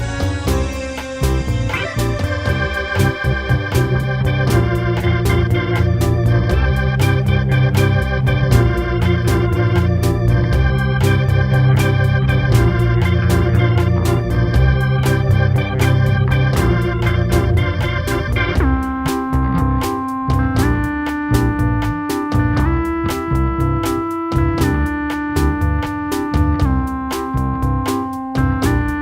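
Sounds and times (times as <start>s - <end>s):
bass guitar line: 0.0s - 29.0s
drum machine beat: 0.0s - 29.0s
organ chords: 0.0s - 29.0s.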